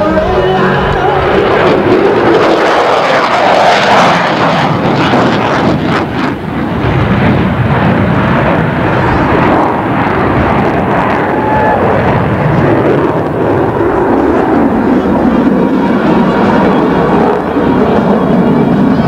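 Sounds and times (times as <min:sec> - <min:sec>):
jet roar flying past: 0:00.0 - 0:19.0.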